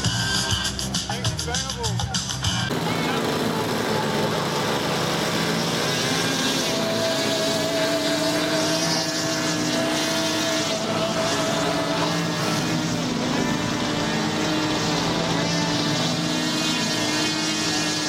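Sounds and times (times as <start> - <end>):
model airplane engines droning: 2.6 - 18.0.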